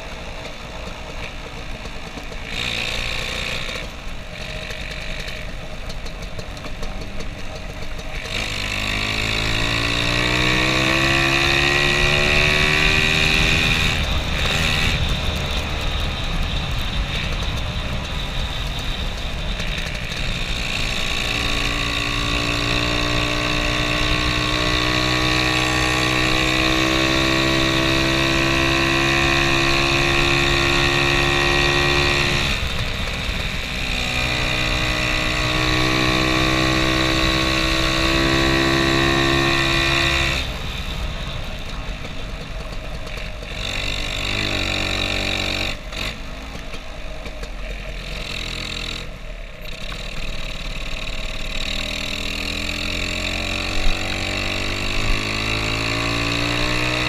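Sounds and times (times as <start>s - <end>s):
scooter engine accelerating: 0.0s - 57.0s.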